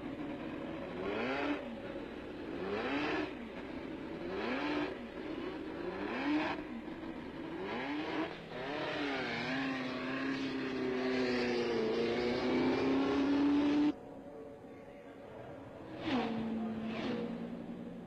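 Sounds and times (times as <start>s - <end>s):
racing engines revving: 0.0s - 14.0s, 15.3s - 18.0s.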